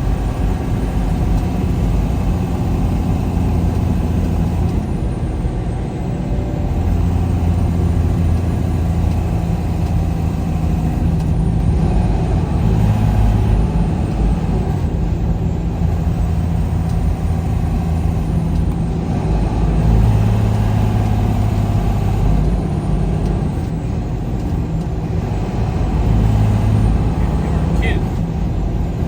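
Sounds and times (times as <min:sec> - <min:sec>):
road noise: 0:00.0 - 0:29.0
truck engine humming: 0:00.0 - 0:29.0.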